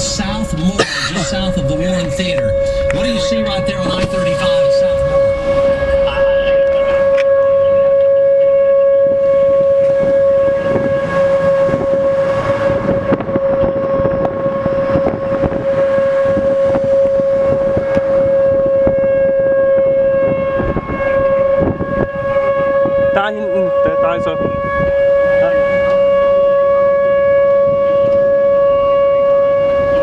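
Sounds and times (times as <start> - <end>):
tornado warning siren: 0.0 - 30.0
wind buffeting microphone: 0.0 - 30.0.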